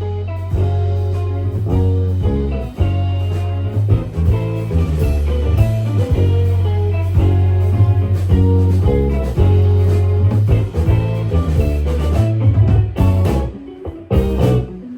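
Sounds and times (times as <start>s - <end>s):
bass notes: 0.0s - 14.9s
electric guitar: 0.0s - 14.9s
rock band playing live: 0.0s - 14.9s.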